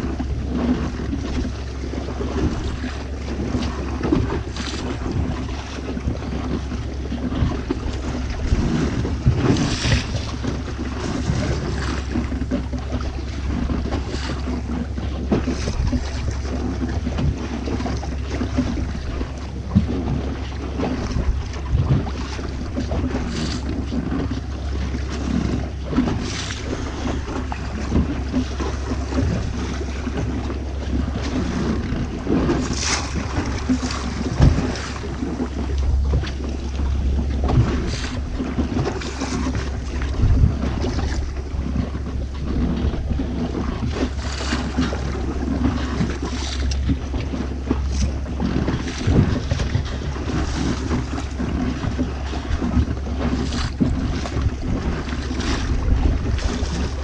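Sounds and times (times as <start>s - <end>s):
steady low rumble: 0.0s - 57.0s
water slapping against hull: 0.0s - 57.0s
wind buffeting microphone: 0.0s - 57.0s.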